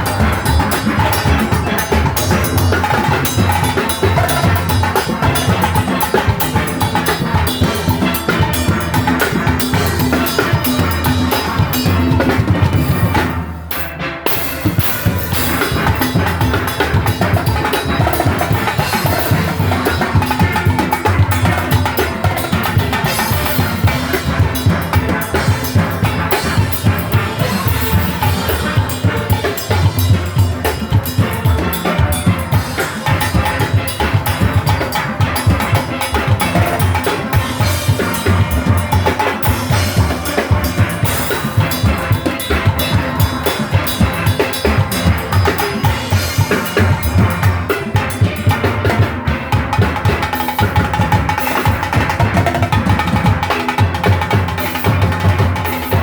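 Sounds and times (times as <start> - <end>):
drum kit and percussion: 0.0 - 56.0
steel pans playing: 0.0 - 56.0.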